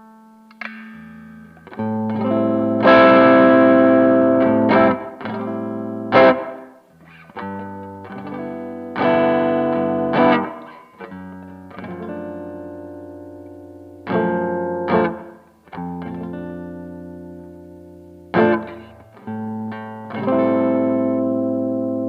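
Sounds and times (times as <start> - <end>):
overdriven electric guitar chords: 0.0 - 22.0.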